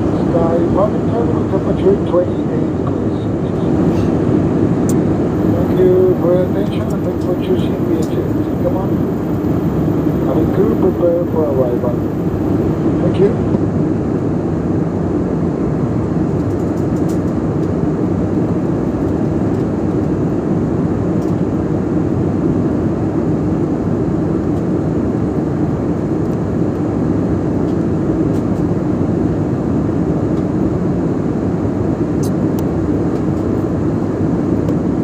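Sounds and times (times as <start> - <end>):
jet airliner cabin rumble: 0.0 - 35.0.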